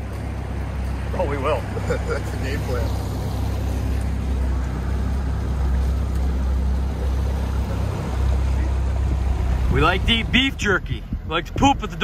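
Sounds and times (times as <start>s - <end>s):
boat motor rumbling: 0.0s - 12.0s
water noise: 0.0s - 12.0s
wind: 0.0s - 12.0s.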